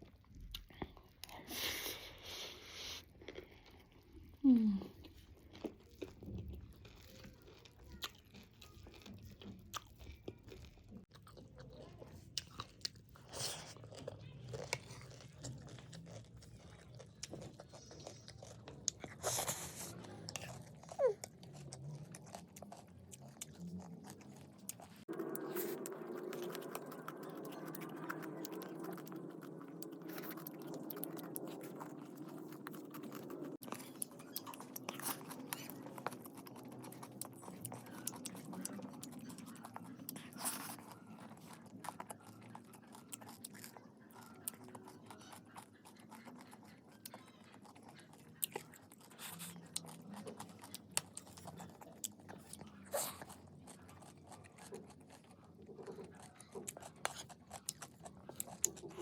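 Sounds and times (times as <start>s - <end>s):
chewing crunchy snack: 0.0s - 2.0s, 3.0s - 59.0s.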